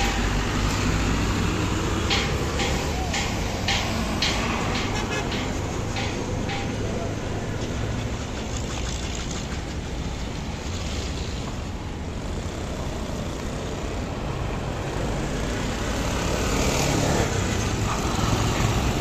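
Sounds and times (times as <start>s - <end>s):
auto-rickshaw engines: 0.0s - 19.0s
passing car engines: 0.0s - 19.0s.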